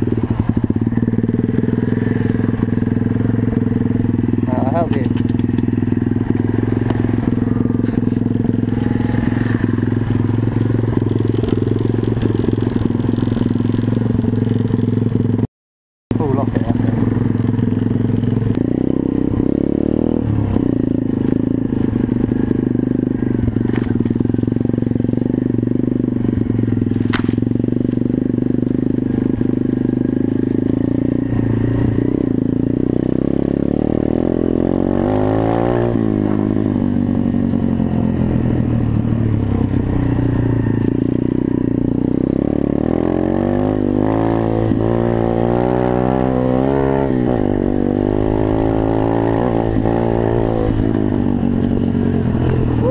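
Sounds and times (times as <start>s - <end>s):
motorcycle engine revving: 0.0s - 15.5s, 16.1s - 52.9s.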